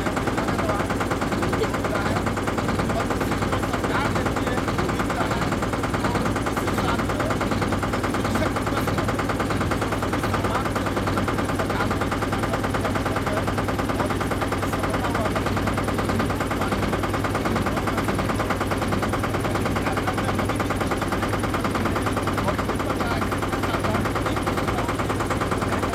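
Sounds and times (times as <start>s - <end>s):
motorboat engine chugging: 0.0s - 25.9s.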